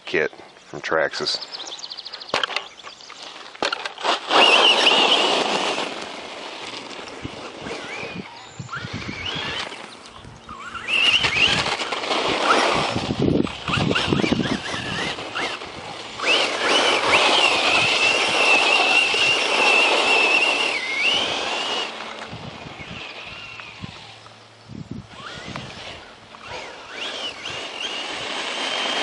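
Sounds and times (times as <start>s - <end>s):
tyres rushing on dirt: 3.0s - 24.2s, 25.2s - 29.0s
electric motor whining: 3.2s - 29.0s.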